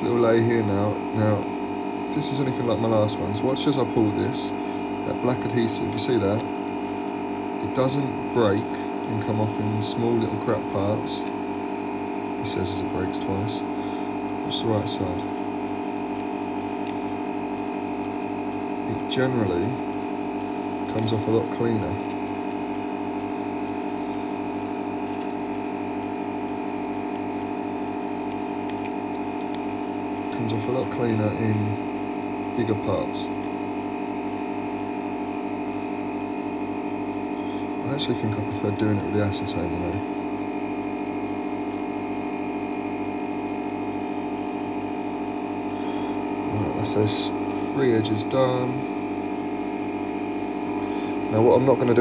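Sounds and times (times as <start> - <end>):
pulsing electrical hum: 0.0 - 52.0.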